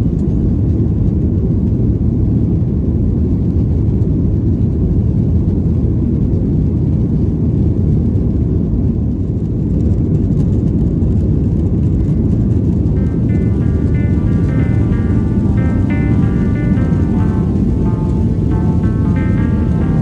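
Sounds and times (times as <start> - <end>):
airplane cabin engine rumble: 0.0 - 20.0.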